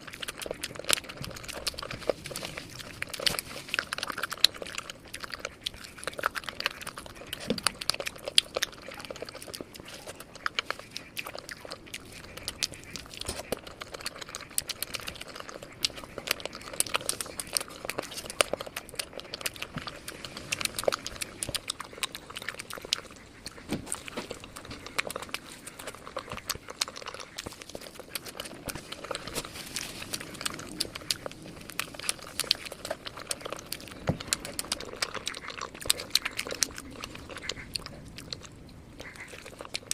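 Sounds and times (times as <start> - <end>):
biting and chewing crispy chicken: 0.0 - 39.9
crunching and clicking mouth sounds: 0.0 - 39.9.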